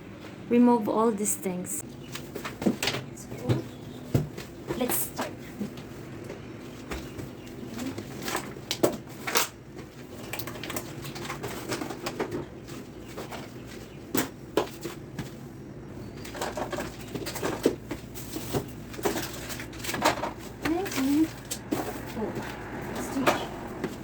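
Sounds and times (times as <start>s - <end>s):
items knocking and clattering: 2.2s - 15.4s, 16.1s - 24.0s.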